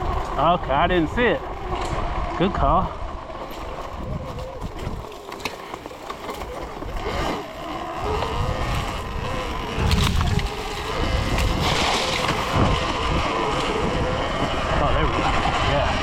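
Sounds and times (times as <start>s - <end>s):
electric dirt bike motor whining: 0.0s - 16.0s.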